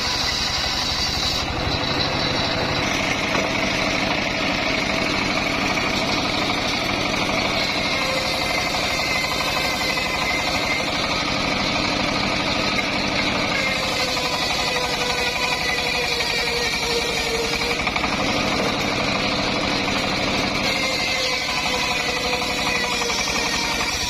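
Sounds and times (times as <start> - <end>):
saw engine running: 0.0 - 24.0.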